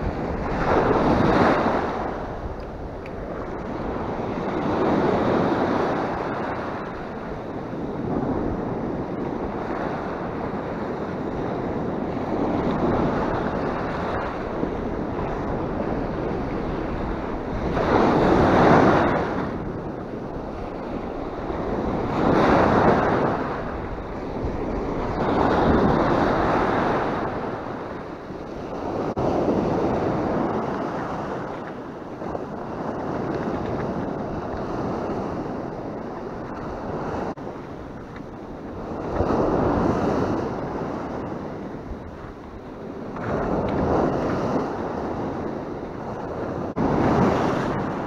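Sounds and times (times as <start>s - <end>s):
sea waves breaking on shore: 0.0s - 48.0s.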